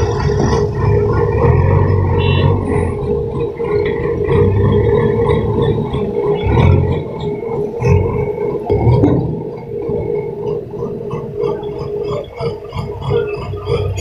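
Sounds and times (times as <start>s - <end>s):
engine drone: 0.0s - 14.0s
low thuds: 0.0s - 14.0s.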